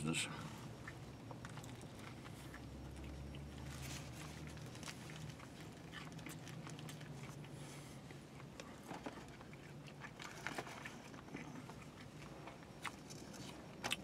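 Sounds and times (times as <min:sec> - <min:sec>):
faint low hum: 0:00.0 - 0:14.0
person chewing food: 0:00.7 - 0:14.0.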